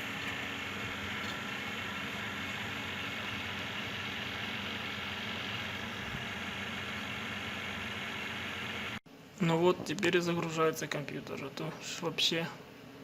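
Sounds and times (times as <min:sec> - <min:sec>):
computer fans whirring: 0:00.0 - 0:13.0.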